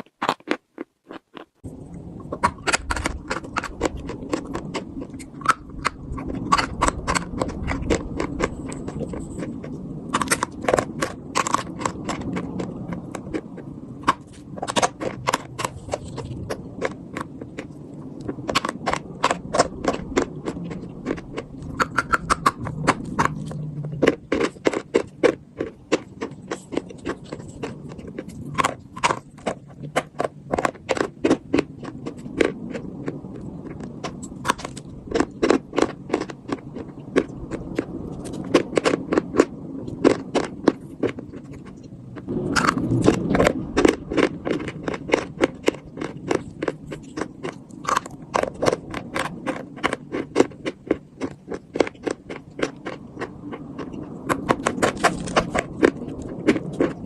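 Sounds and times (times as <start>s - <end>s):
chalk crunching being chewed: 0.0s - 1.6s, 2.2s - 57.0s.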